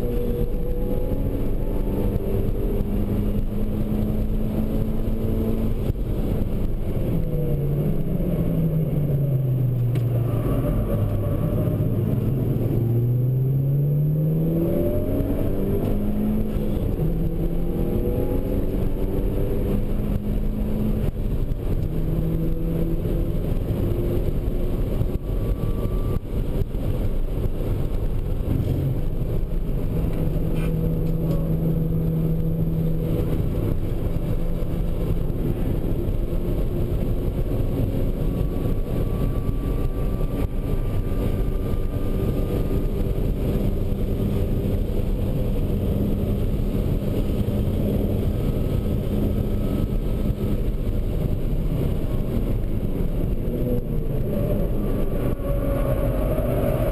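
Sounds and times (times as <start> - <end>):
car engine running hard: 0.0 - 56.9
road and wind noise: 0.0 - 56.9.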